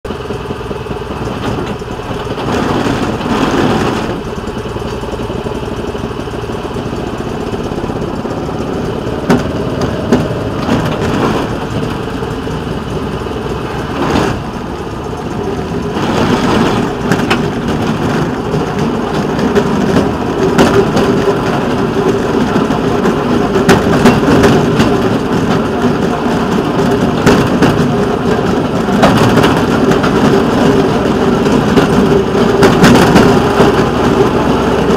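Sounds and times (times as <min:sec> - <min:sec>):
rail vehicle engine running: 0:00.0 - 0:34.9
wheels clacking: 0:00.1 - 0:34.9.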